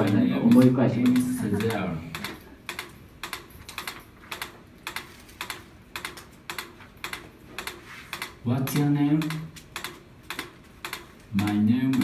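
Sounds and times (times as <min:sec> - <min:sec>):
steady ticking: 0:00.0 - 0:12.0.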